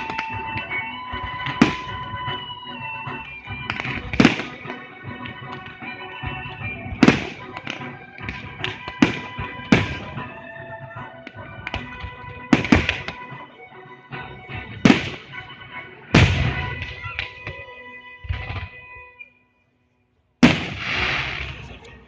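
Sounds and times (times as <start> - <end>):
fireworks bursting with bangs: 0.0 - 13.5, 14.6 - 17.6, 20.4 - 21.8
music: 0.0 - 22.0.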